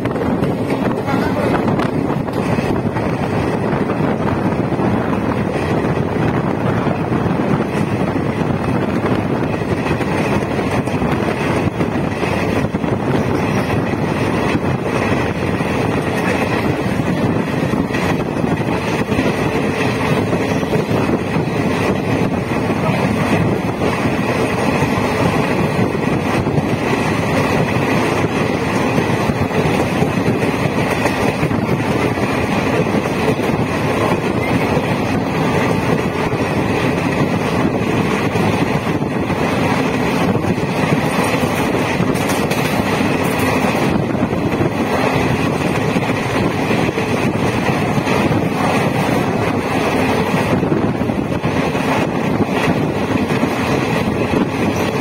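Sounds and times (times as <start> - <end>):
train engine and wheels rumbling: 0.0 - 55.0
wind noise on microphone: 0.0 - 55.0.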